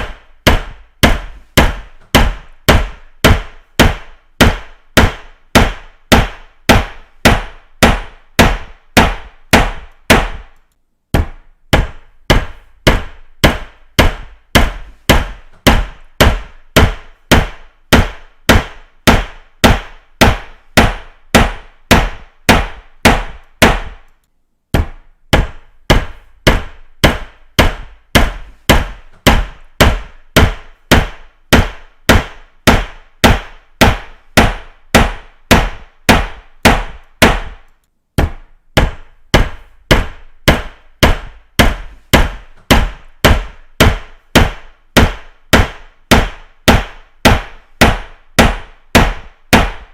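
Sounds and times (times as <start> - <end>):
hammer striking: 0.0 - 49.9.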